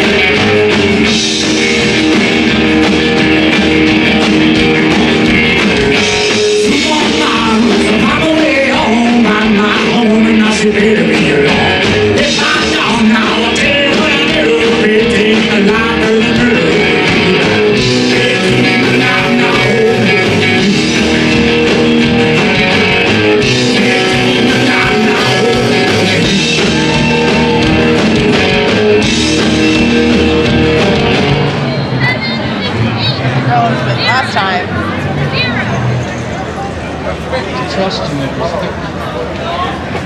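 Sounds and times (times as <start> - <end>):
rock and roll song: 0.0 - 34.7.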